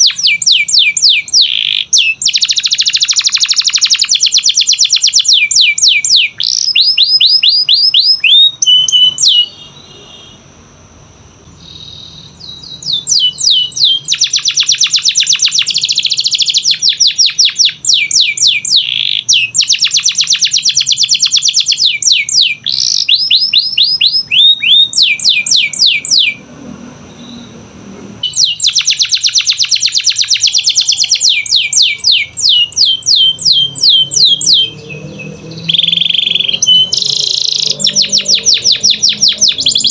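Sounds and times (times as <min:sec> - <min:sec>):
canary singing trills: 0:00.0 - 0:10.5, 0:11.4 - 0:26.5, 0:27.1 - 0:39.9.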